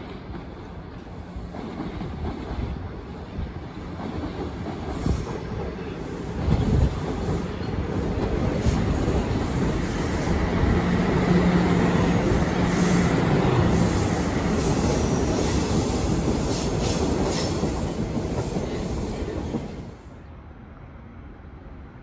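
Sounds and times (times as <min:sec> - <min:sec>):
subway train running past: 0:00.0 - 0:22.0.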